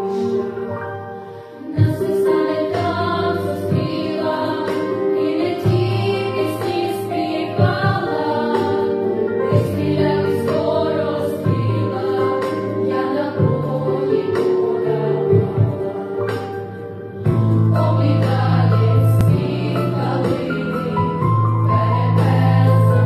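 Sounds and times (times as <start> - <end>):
young vocal ensemble singing: 0.0 - 23.0.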